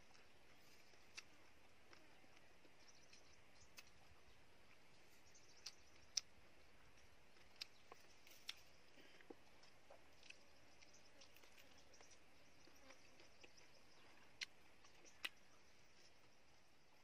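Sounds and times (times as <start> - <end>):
mouth clicks and smacks chewing: 0.0 - 15.6.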